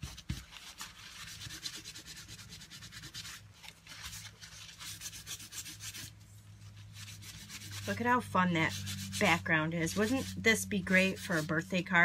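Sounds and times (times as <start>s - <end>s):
paper towel rubbing on card: 0.0s - 12.0s.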